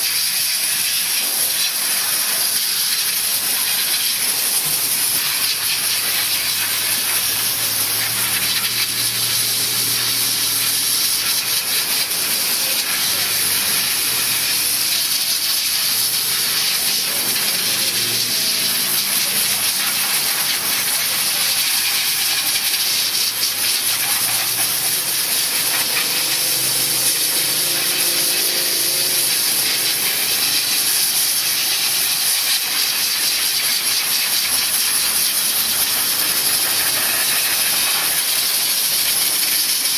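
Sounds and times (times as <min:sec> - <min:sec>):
steam cleaner hissing: 0:00.0 - 0:39.9.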